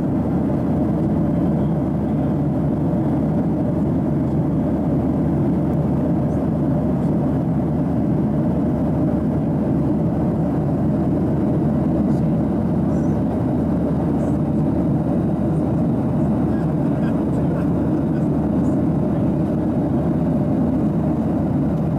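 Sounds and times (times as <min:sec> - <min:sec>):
airplane cabin engine drone: 0:00.0 - 0:21.9.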